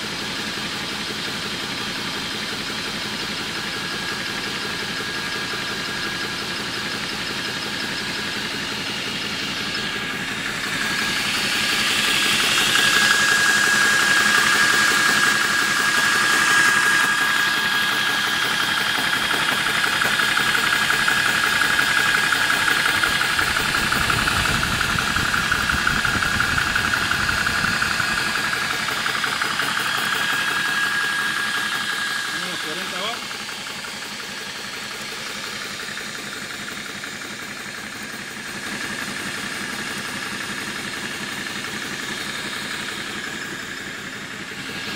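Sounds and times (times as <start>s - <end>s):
air compressor pumping: 1.7s - 44.9s.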